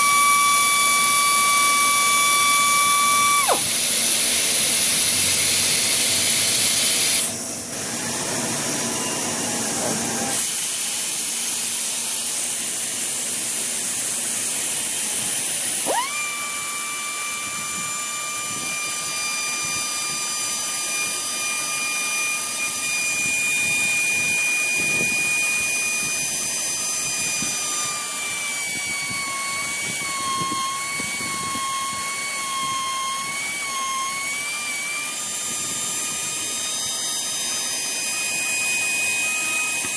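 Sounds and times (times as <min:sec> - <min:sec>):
pneumatic drill motor whine: 0:00.0 - 0:39.9.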